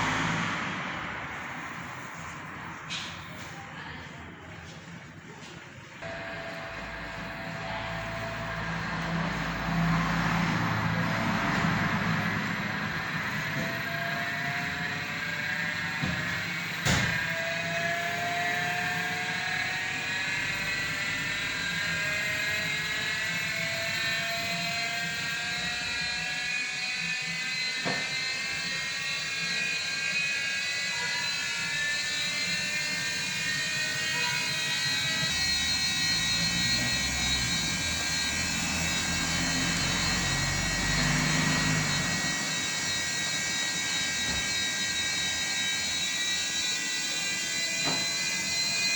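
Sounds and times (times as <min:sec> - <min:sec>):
washing machine spin whine: 0:06.0 - 0:48.9.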